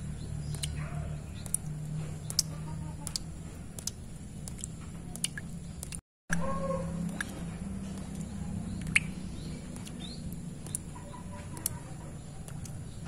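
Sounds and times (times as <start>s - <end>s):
water drops plinking in puddle: 0.1s - 11.8s.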